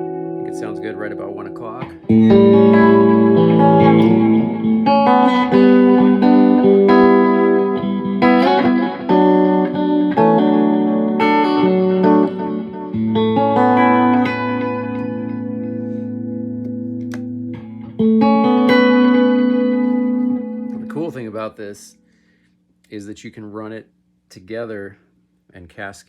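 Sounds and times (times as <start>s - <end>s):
electric guitar chords with delay: 0.0s - 21.5s.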